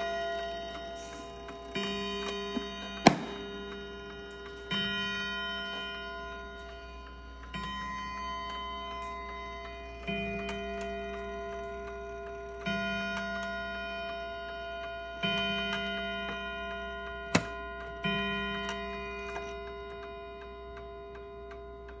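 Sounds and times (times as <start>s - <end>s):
clock gong striking: 0.0s - 22.0s.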